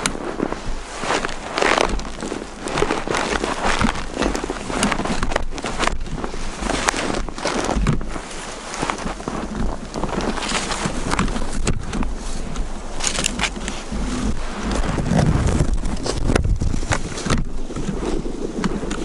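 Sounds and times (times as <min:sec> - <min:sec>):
footsteps crunching in snow: 0:00.0 - 0:19.0
wind noise on microphone: 0:00.0 - 0:19.0.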